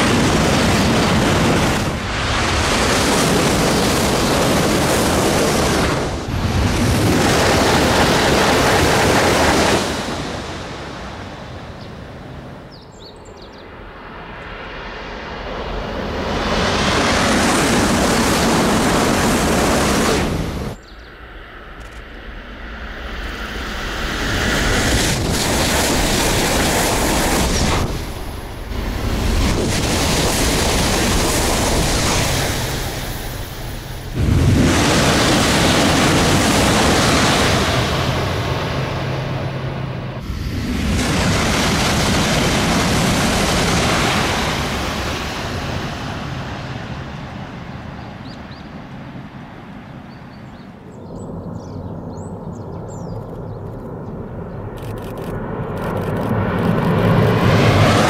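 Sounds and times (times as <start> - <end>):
high speed train passing: 0.0 - 51.6, 56.0 - 58.0.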